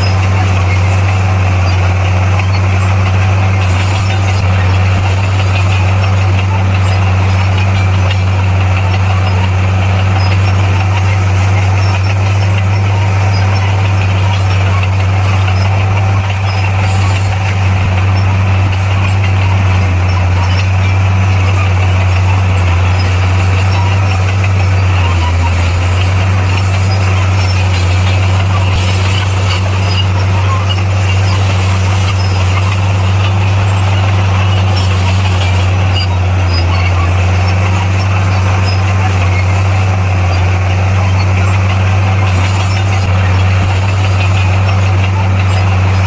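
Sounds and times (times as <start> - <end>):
bulldozer diesel engine droning: 0.0 - 46.0.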